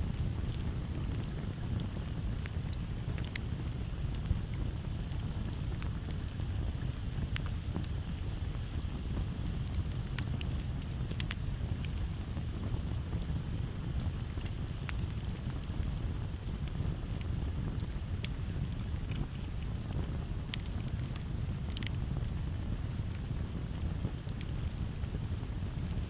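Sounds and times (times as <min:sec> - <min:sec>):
campfire crackling and popping: 0:00.0 - 0:26.0
low steady rumble: 0:00.0 - 0:26.0
crickets chirping: 0:00.1 - 0:26.0.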